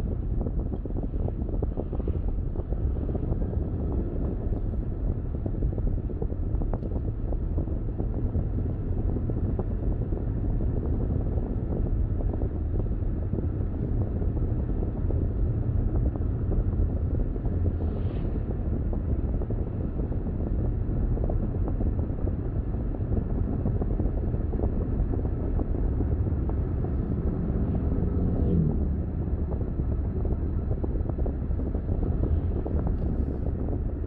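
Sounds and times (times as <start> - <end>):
tyre and road noise: 0.0 - 34.0
wind noise: 0.0 - 34.0.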